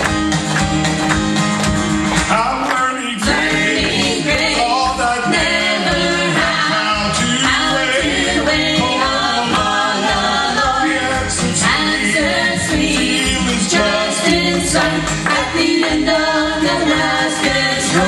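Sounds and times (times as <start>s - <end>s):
musical accompaniment: 0.0s - 18.0s
gospel group singing in harmony: 2.2s - 18.0s.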